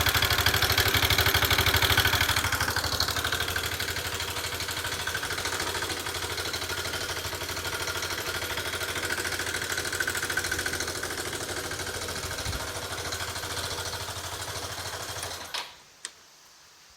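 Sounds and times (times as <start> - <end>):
scooter engine idling: 0.0 - 15.5
engine stopping click: 0.0 - 15.8.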